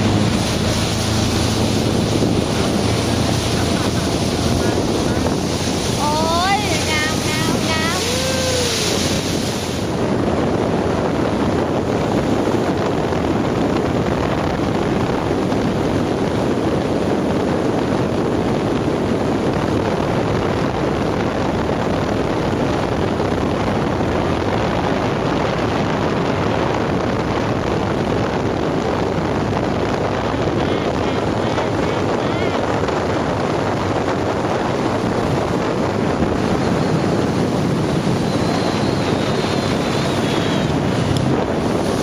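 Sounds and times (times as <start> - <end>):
motorboat engine drone: 0.0 - 42.0
rushing water: 0.0 - 42.0
wind on the microphone: 0.0 - 42.0.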